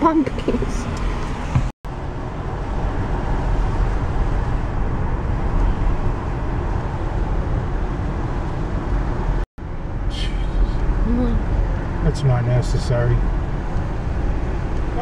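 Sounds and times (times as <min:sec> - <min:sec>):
car road and engine noise: 0:00.0 - 0:15.0
tyres on wet road: 0:00.0 - 0:15.0.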